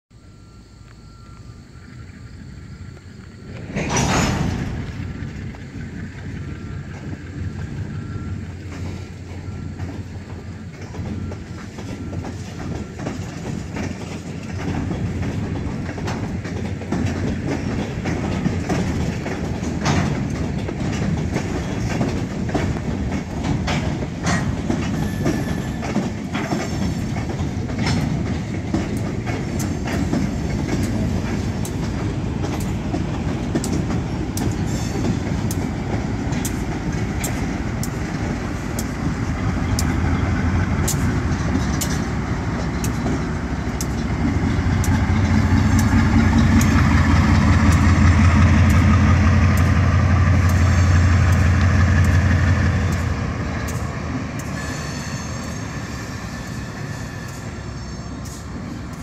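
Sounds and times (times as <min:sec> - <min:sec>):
diesel locomotive engine drone: 0:00.1 - 0:59.0
freight cars rolling on track: 0:00.2 - 0:59.0.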